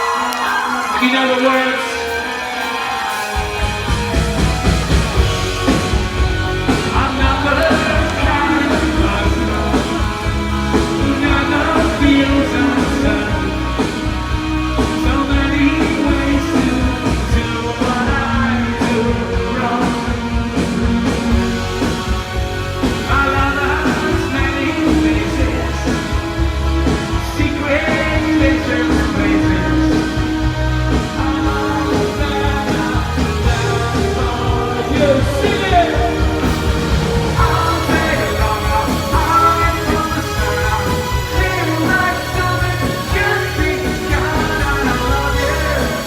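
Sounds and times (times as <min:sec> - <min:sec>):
man singing: 0:00.0 - 0:02.8, 0:05.1 - 0:46.0
rock band playing live: 0:00.0 - 0:46.0.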